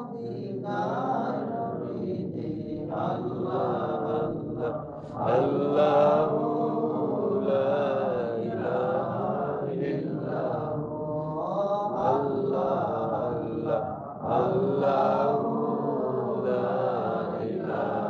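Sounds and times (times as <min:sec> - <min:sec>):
voices chanting devotionally: 0:00.0 - 0:18.0.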